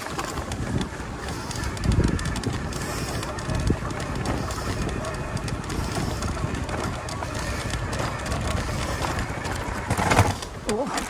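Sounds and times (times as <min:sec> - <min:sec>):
bike rumbling over rough trail: 0:00.0 - 0:11.0.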